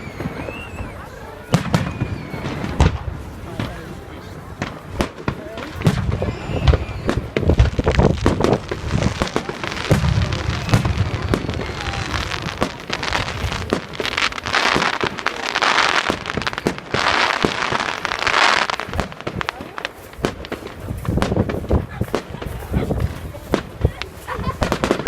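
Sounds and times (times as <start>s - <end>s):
fireworks bangs and booms: 0.0s - 25.0s
fireworks crackling: 0.0s - 25.0s.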